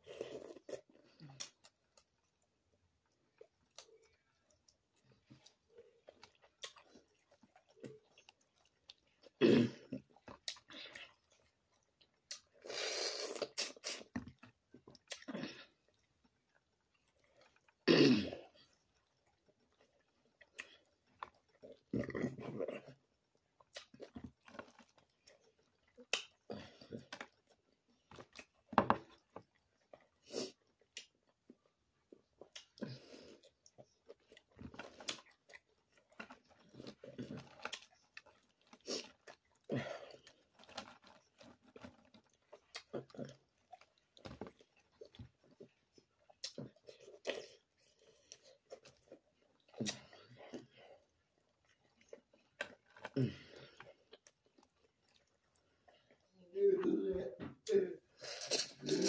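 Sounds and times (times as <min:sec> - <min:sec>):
wet chewing and lip-smacking: 0:00.0 - 0:59.0.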